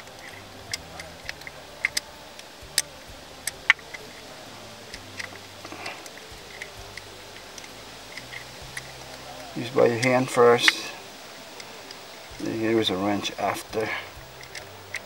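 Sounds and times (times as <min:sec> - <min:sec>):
light clicks and ticks: 0:00.0 - 0:15.0.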